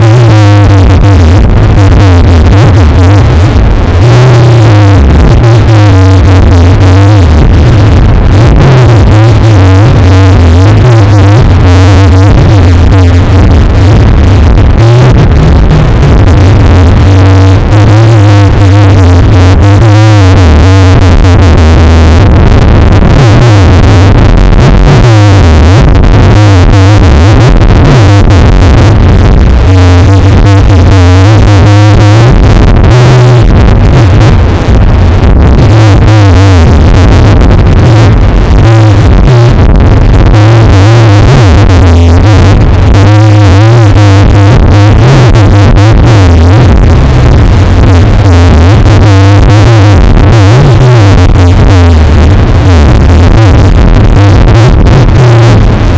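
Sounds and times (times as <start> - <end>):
bass-boosted electronic music: 0.0 - 55.9.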